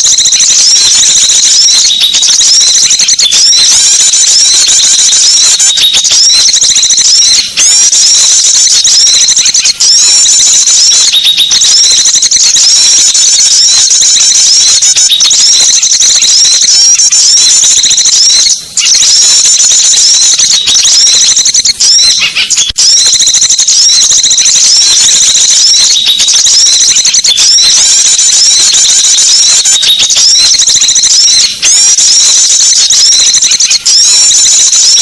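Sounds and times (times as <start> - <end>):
small birds chattering: 0.0 - 22.7, 24.4 - 30.4.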